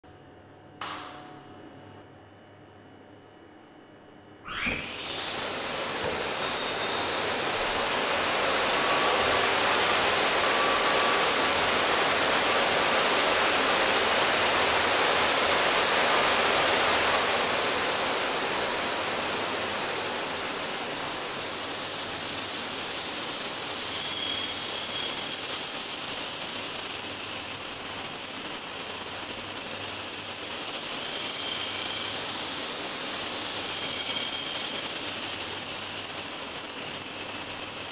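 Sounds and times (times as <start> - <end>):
rush of air with whistling: 4.5 - 37.9.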